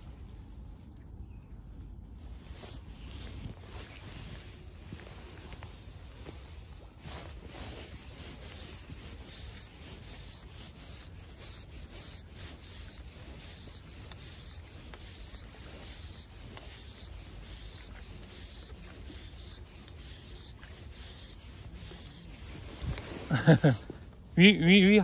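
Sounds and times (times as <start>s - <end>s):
fabric rubbing on microphone: 2.1s - 24.5s.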